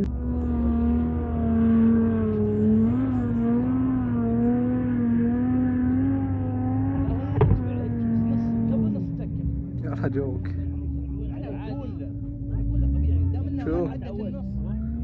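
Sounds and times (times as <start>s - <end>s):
car engine revving high: 0.0s - 15.0s.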